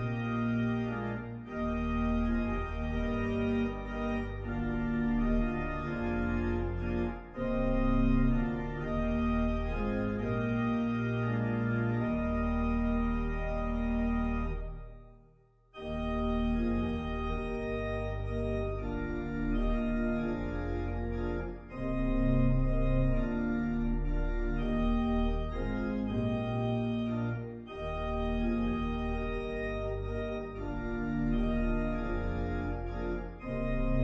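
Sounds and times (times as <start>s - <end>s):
organ playing held chords: 0.0s - 15.2s, 15.8s - 34.0s.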